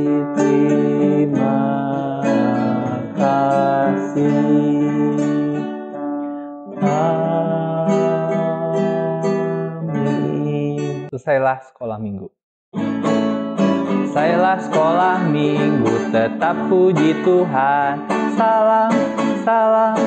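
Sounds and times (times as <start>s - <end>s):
man singing: 0.0s - 5.9s, 6.7s - 11.2s, 13.9s - 20.0s
strummed acoustic guitar: 0.0s - 11.1s, 12.8s - 20.0s.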